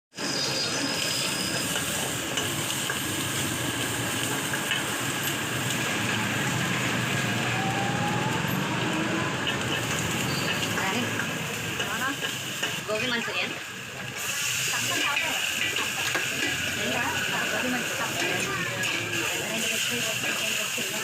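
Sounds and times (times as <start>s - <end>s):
food sizzling in hot oil: 0.2s - 21.0s.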